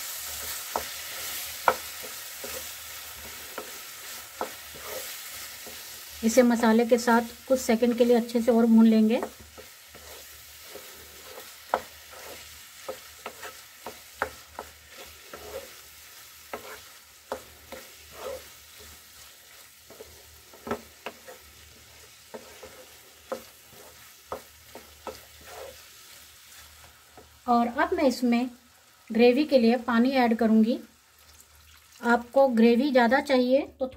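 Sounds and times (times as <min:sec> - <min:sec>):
food sizzling: 0:00.0 - 0:33.4
spatula scraping pan: 0:00.1 - 0:27.4.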